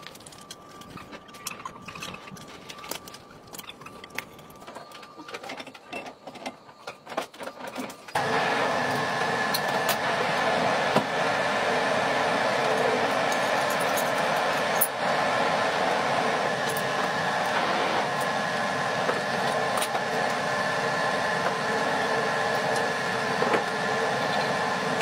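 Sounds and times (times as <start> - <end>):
workshop machine whining: 0.0 - 25.0.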